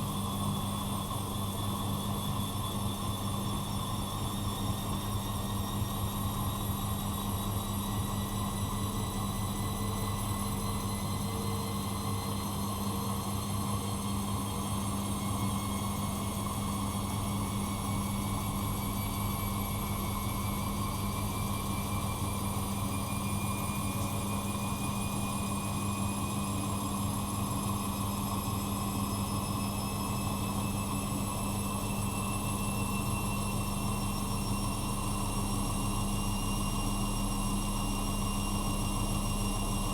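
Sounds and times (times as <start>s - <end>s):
washing machine hum: 0.0s - 39.9s.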